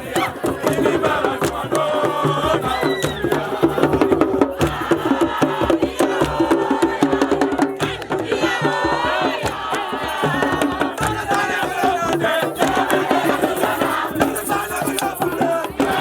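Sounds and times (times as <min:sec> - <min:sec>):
group chanting and singing: 0:00.0 - 0:16.0
percussive beat: 0:00.0 - 0:16.0.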